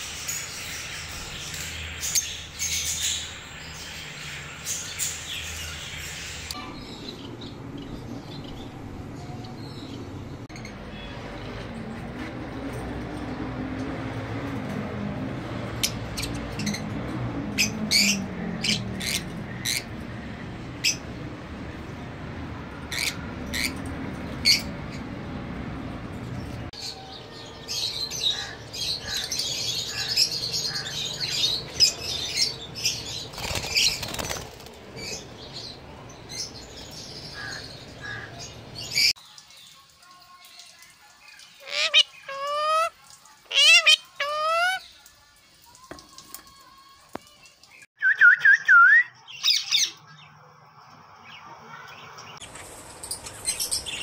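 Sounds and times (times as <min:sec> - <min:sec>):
birds chirping and chattering: 0:00.0 - 0:12.0, 0:15.5 - 0:46.1, 0:49.2 - 0:54.0.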